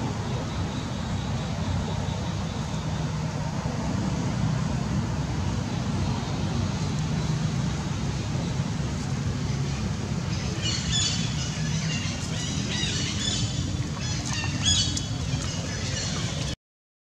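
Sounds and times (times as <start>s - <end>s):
low outdoor rumble: 0.0s - 16.6s.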